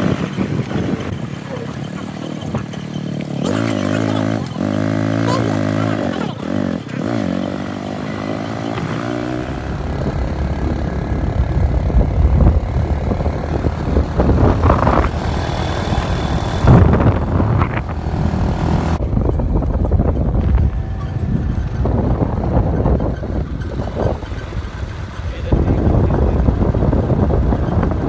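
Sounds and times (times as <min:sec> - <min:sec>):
wind buffeting the microphone: 0:00.0 - 0:02.9, 0:07.0 - 0:28.0
motorcycle engine running: 0:00.0 - 0:28.0.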